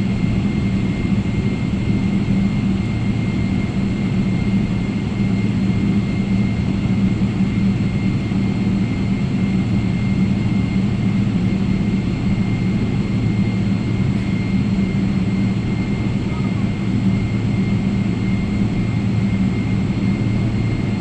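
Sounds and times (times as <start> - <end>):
jet engine cabin drone: 0.0 - 21.0.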